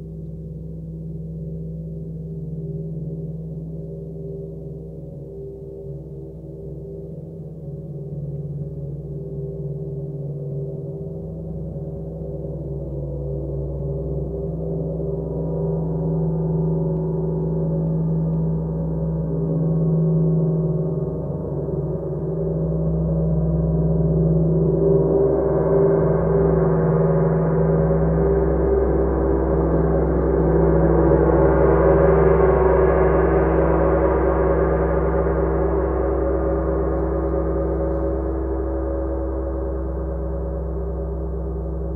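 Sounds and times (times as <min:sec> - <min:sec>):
deep low hum: 0:00.0 - 0:41.9
gong played with felt mallet: 0:00.6 - 0:41.9.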